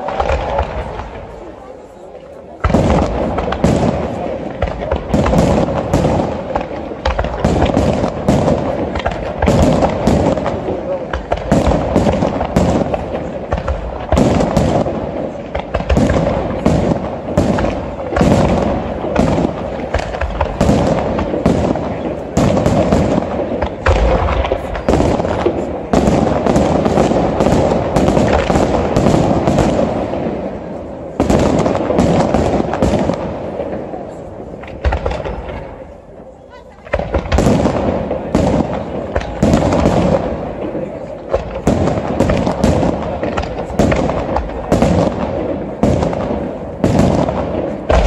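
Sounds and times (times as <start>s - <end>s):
continuous noisy rush: 0.0s - 48.0s.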